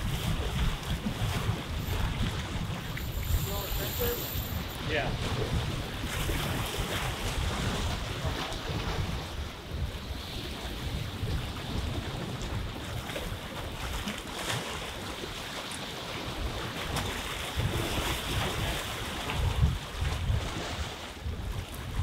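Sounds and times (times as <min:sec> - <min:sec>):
small waves washing on rocks: 0:00.0 - 0:22.0
wind buffeting microphone: 0:00.0 - 0:22.0.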